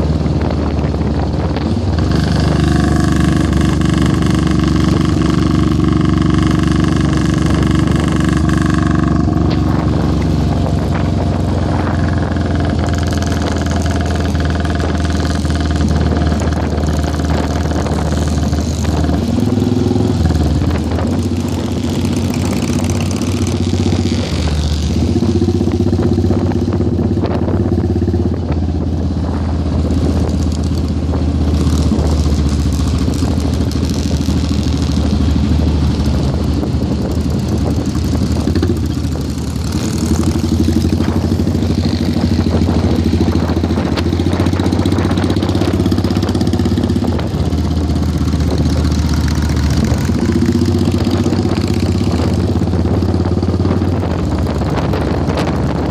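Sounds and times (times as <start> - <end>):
motorcycle engine cruising: 0.0 - 55.9
wind rushing over microphone: 0.0 - 55.9.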